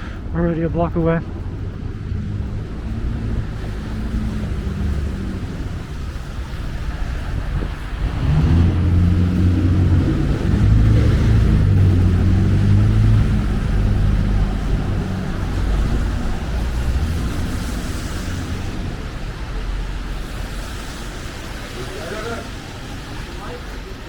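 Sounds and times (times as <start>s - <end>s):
wind noise: 0.0s - 21.8s
street traffic: 0.0s - 24.0s
vehicle engine humming: 0.0s - 24.0s.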